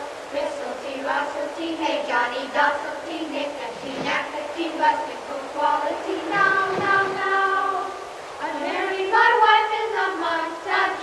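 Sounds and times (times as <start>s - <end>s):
children singing together: 0.2s - 11.0s.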